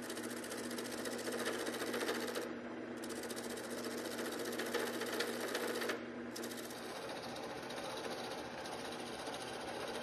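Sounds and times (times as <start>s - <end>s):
lathe motor hum: 0.0s - 10.0s
turning tool scraping wood: 0.0s - 10.0s.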